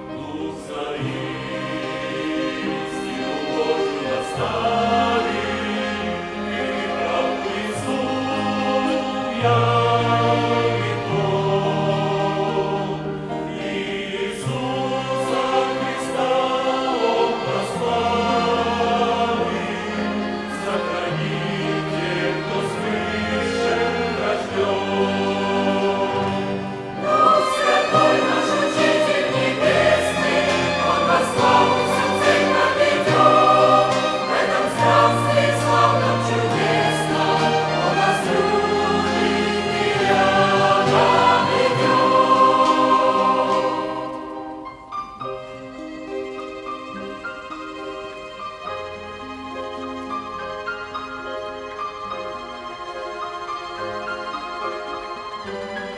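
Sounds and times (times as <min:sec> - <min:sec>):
church choir singing a hymn: 0:00.0 - 0:55.9
violin ensemble: 0:00.0 - 0:55.9.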